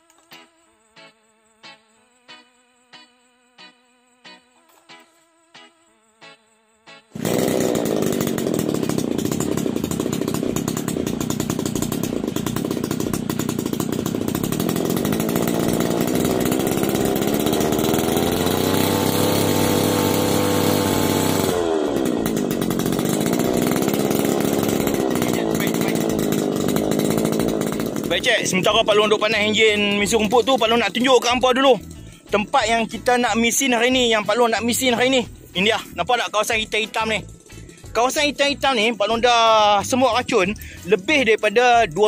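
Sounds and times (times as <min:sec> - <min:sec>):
brush cutter engine running: 0:04.2 - 0:42.0.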